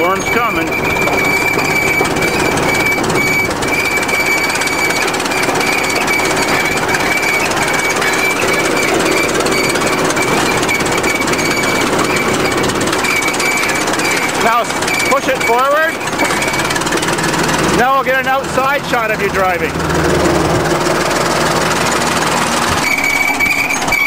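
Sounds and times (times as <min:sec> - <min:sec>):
bulldozer diesel engine rattling: 0:00.0 - 0:24.0
steady high whine: 0:00.0 - 0:24.0.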